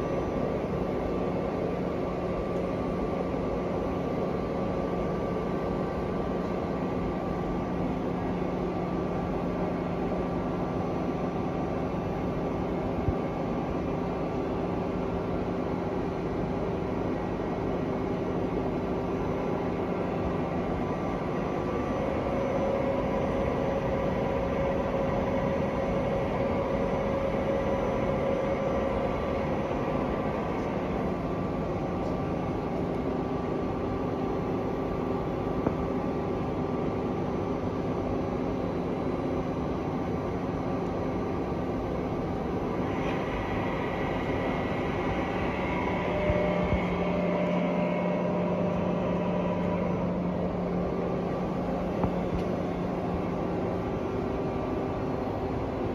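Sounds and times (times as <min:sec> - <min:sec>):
high-pitched machine whine: 0:00.0 - 0:55.9
lathe machine hum: 0:00.0 - 0:55.9.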